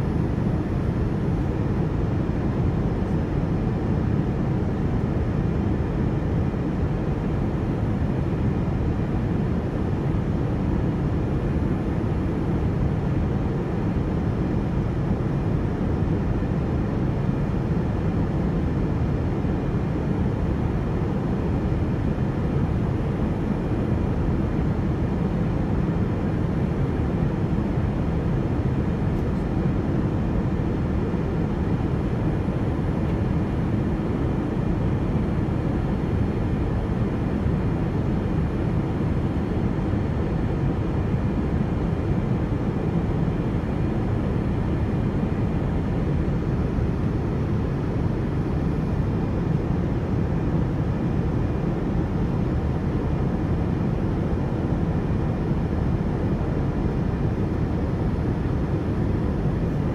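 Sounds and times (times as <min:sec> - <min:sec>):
airplane cabin engine and airflow rush: 0:00.0 - 0:59.9.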